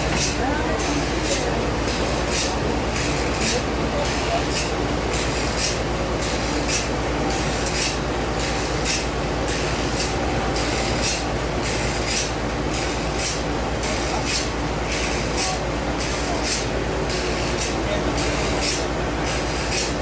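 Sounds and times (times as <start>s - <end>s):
sawmill machinery hum: 0.0s - 20.0s.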